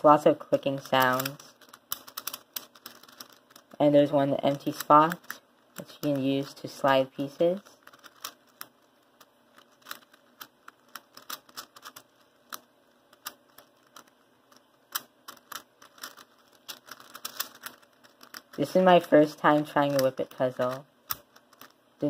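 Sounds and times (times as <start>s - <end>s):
plastic puzzle clicking: 0.9s - 3.8s, 4.5s - 6.2s, 7.8s - 18.6s, 19.2s - 21.8s.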